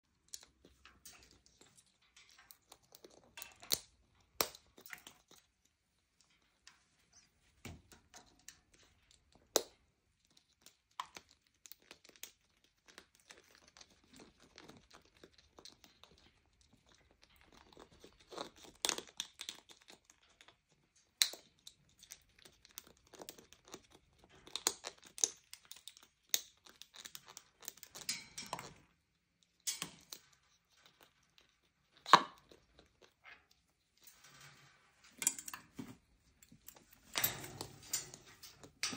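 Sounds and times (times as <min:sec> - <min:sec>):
parrots crunching food: 0:00.0 - 0:38.9.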